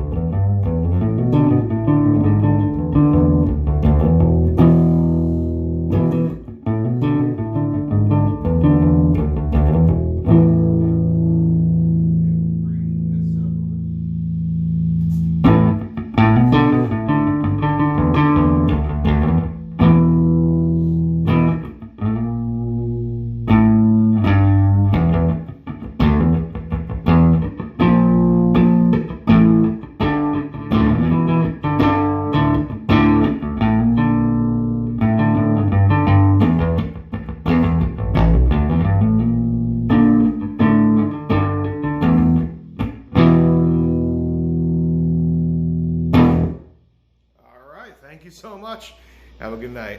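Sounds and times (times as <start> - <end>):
electric bass guitar plucked: 0.0 - 47.3.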